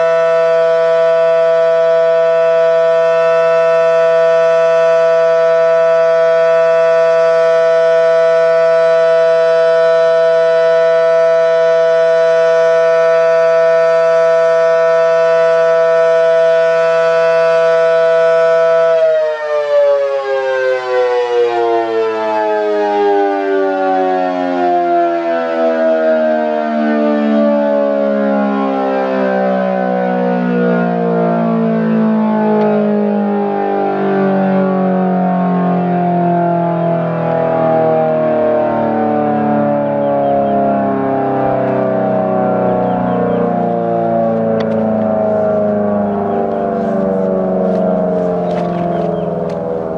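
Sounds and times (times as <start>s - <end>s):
siren winding down: 0.0s - 49.9s
warning siren two-note chord: 0.0s - 49.9s.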